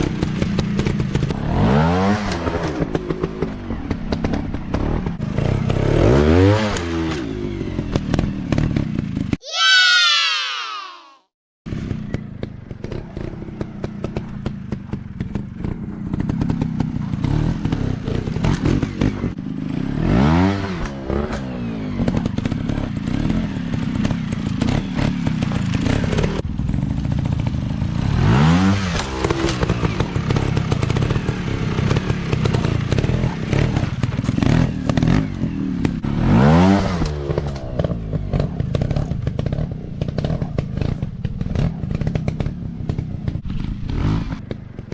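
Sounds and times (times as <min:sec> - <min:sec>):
dirt bike engine revving: 0:00.0 - 0:10.9, 0:11.7 - 0:44.6.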